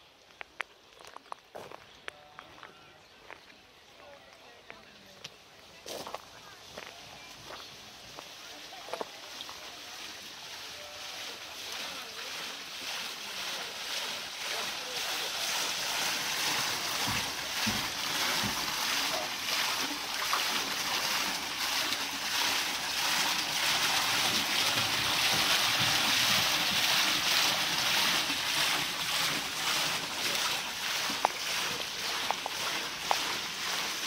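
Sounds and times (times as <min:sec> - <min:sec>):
water splashing off water wheel: 0:06.7 - 0:34.0.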